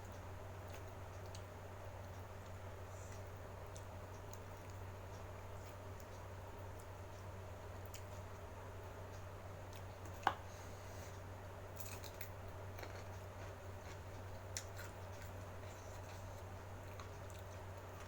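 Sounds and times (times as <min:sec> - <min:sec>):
soft chewing: 0:00.0 - 0:18.0
steady low hum: 0:00.0 - 0:18.0.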